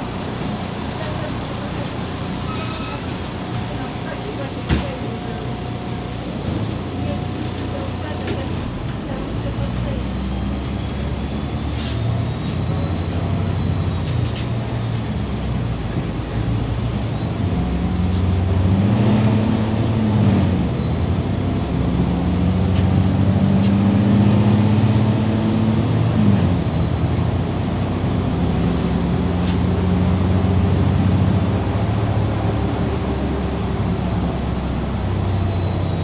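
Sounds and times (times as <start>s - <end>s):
bus diesel engine: 0.0s - 36.0s.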